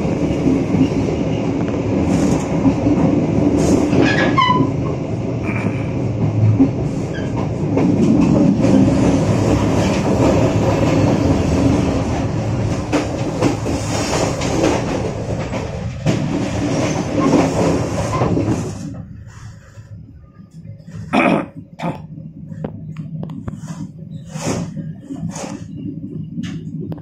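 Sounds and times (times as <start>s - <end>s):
train rolling noise from inside: 0.0s - 27.0s.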